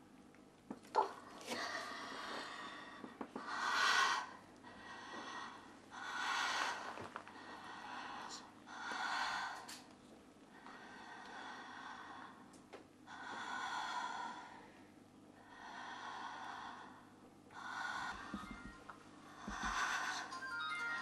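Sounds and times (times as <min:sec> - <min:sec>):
woman breathing heavily: 0:01.4 - 0:09.9, 0:10.5 - 0:21.0.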